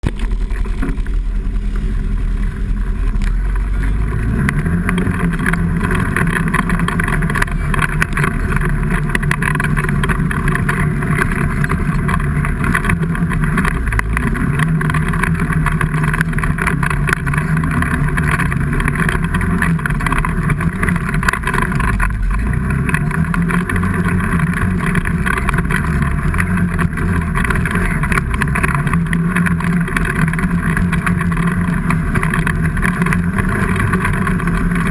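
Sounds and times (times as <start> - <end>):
vehicle engine running loudly: 0.0 - 34.9.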